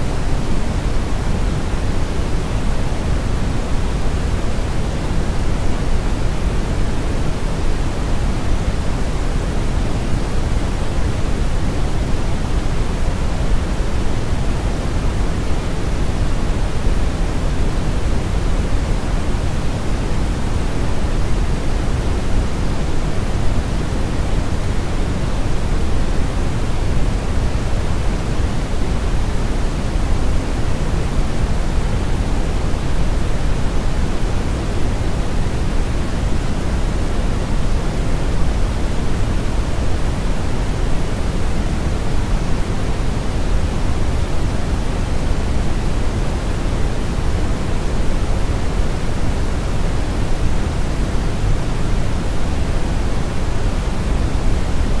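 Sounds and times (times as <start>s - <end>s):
brown noise rushing hiss: 0.0s - 55.0s.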